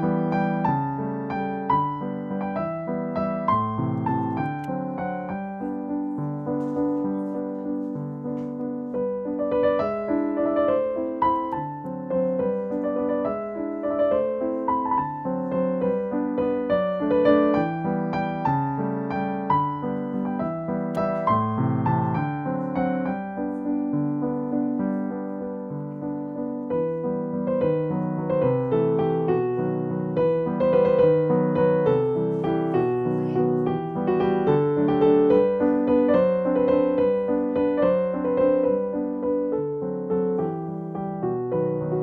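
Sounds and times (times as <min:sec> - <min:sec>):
gentle piano music: 0:00.0 - 0:42.0.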